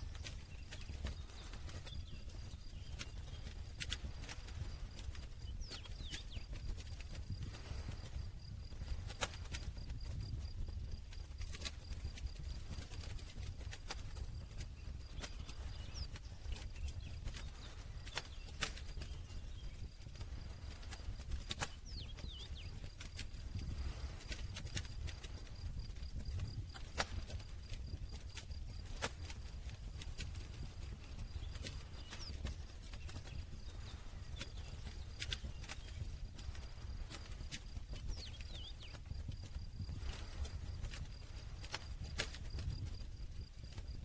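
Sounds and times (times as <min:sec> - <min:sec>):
campfire burning and crackling: 0:00.0 - 0:44.0
fire popping: 0:00.0 - 0:44.0.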